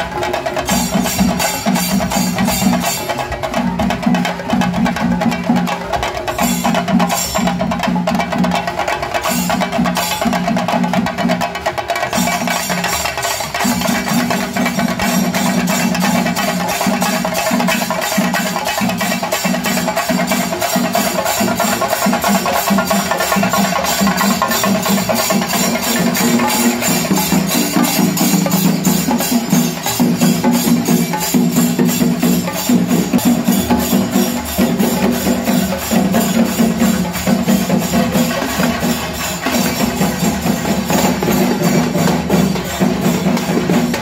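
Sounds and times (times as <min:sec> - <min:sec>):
frame drums beaten with sticks: 0:00.0 - 0:44.0.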